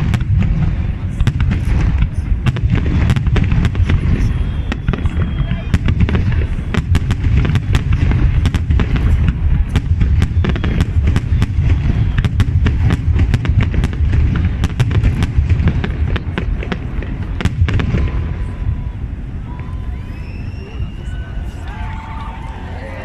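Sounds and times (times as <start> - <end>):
fireworks crackling: 0.0 - 23.0.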